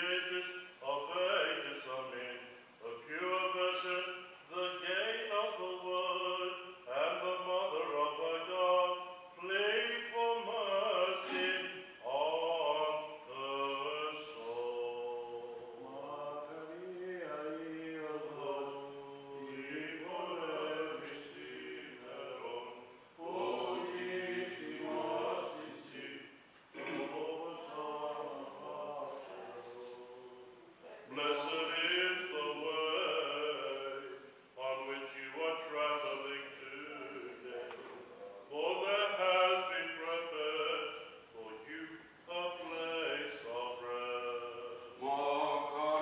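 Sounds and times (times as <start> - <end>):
man chanting a prayer: 0.0 - 26.2, 27.0 - 46.0.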